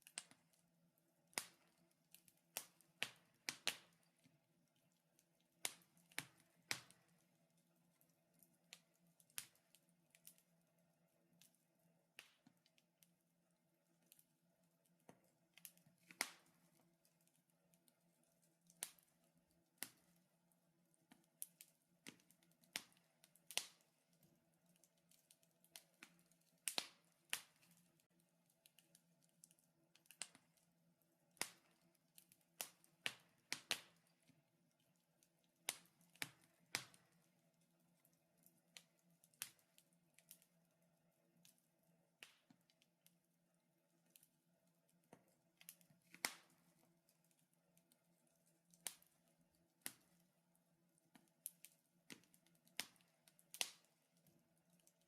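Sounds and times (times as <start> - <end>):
wood fire crackling: 0.0 - 13.2, 13.8 - 43.2, 43.9 - 55.0.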